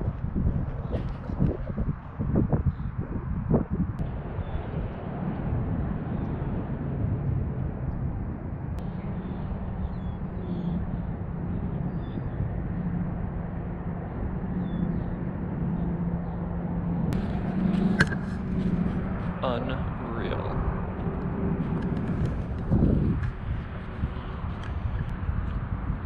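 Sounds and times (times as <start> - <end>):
low hum: 0.0 - 26.0
wind-like noise: 0.0 - 26.0.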